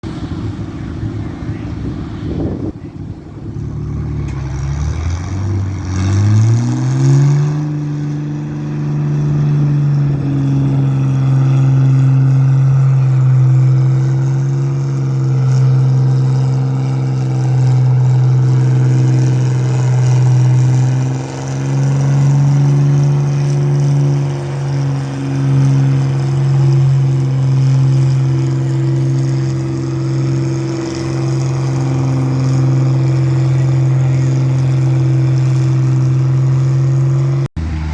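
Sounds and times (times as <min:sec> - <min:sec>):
vehicle engine revving under load: 0:00.0 - 0:37.9.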